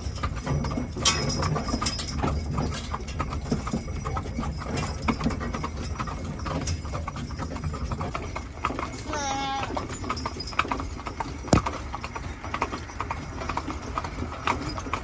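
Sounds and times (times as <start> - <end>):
horse hooves clip-clopping: 0.0 - 15.0
low wagon rumble: 0.0 - 15.0.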